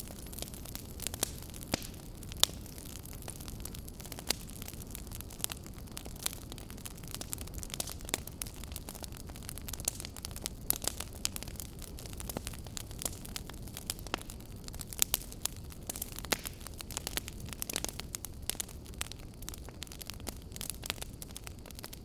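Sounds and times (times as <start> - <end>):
low rush of flame: 0.0 - 22.0
wood fire crackling and popping: 0.0 - 22.0.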